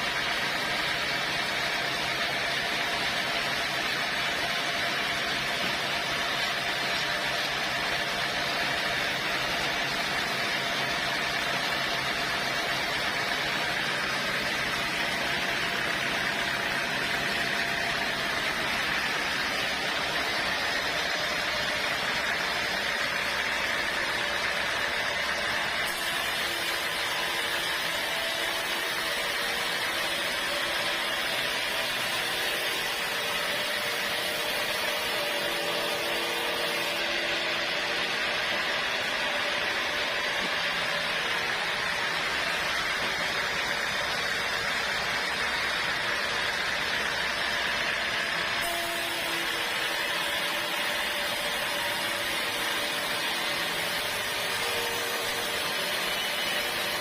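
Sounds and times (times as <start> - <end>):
sawmill saw cutting a log: 0.0 - 57.0.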